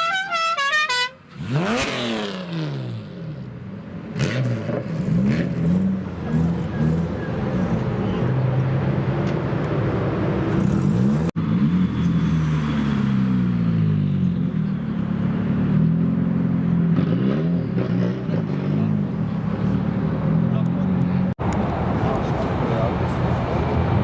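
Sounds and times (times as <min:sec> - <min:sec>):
car engines revving: 0:01.2 - 0:24.0.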